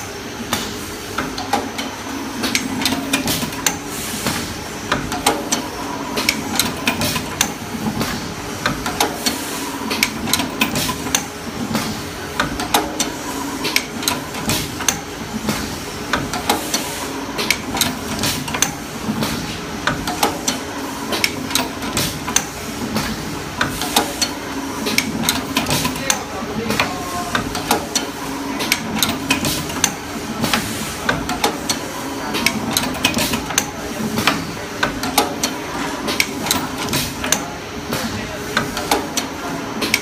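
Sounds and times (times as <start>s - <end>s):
machine clicking and knocking: 0.5s - 16.8s, 17.4s - 40.0s.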